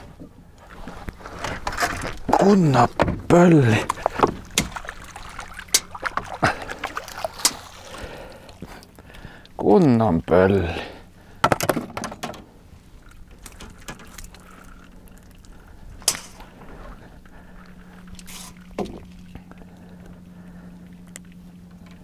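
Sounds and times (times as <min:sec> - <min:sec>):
steady low hum: 0:00.0 - 0:22.0
wet handling noises: 0:00.6 - 0:09.6, 0:12.9 - 0:22.0.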